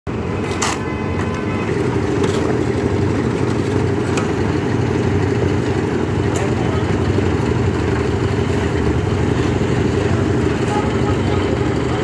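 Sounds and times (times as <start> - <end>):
construction machinery droning: 0.1 - 12.0.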